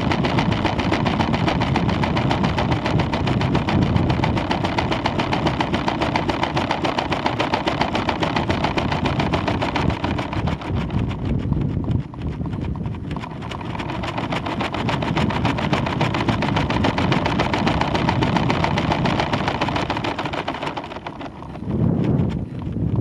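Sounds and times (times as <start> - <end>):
fast rattling clatter: 0.0 - 23.0
noisy rumble: 0.0 - 23.0.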